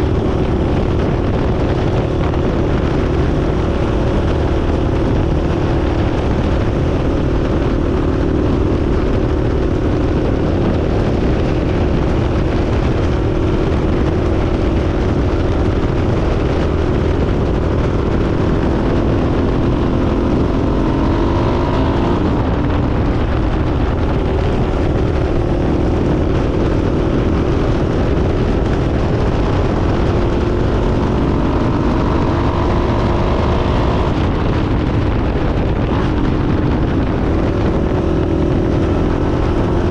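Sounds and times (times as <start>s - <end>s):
quad engine running: 0.0s - 39.9s
wind noise on microphone: 0.0s - 39.9s.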